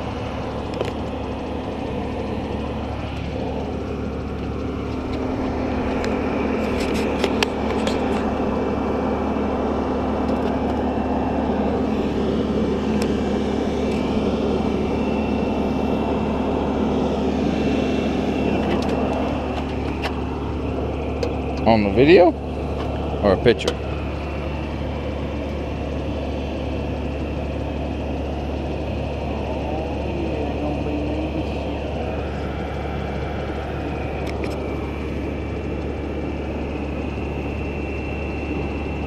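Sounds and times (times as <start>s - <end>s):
fire truck engine running: 0.0s - 39.0s.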